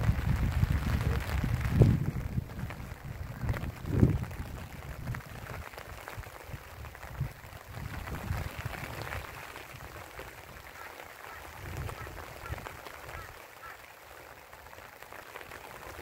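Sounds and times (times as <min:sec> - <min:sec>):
wind buffeting microphone: 0:00.0 - 0:13.3
light rain pattering: 0:00.0 - 0:16.0.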